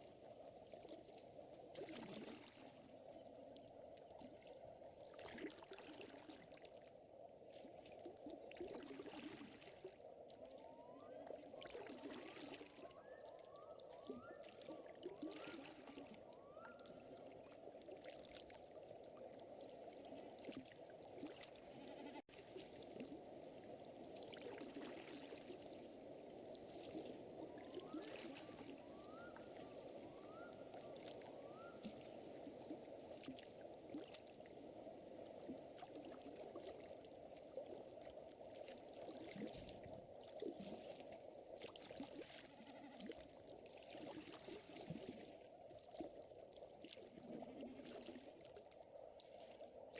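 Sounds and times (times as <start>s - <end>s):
water lapping and trickling: 0.0s - 49.9s.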